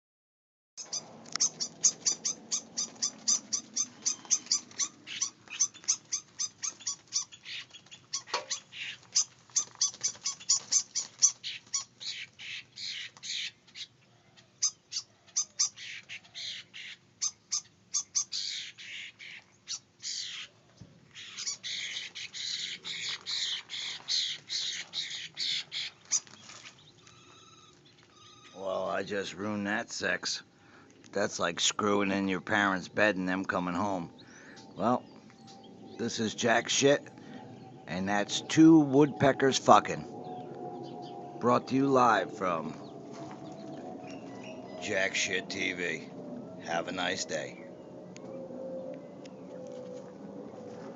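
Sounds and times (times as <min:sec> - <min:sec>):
woodpeckers calling: 0:00.8 - 0:49.9.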